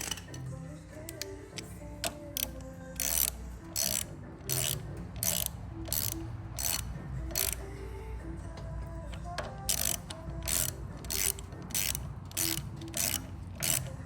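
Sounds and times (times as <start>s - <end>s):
ratchet wrench clicking: 0.0s - 7.9s, 8.6s - 14.0s
faint background music: 0.0s - 14.0s.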